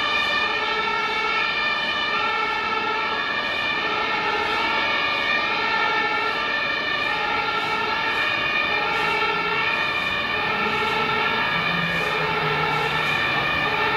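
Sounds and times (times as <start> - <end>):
fire truck two-tone siren: 0.0 - 13.9.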